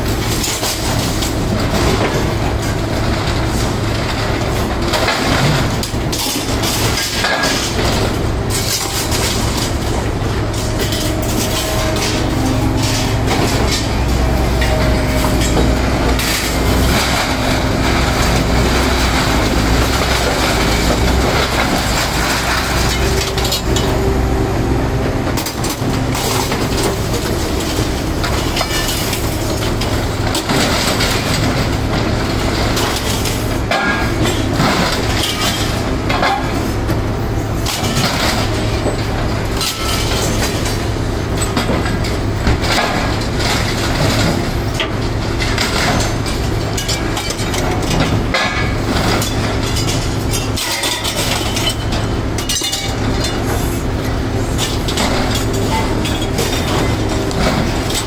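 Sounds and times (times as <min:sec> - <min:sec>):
heavy machine engine running: 0:00.0 - 0:58.0
scrap metal clanking and crashing: 0:00.0 - 0:58.0.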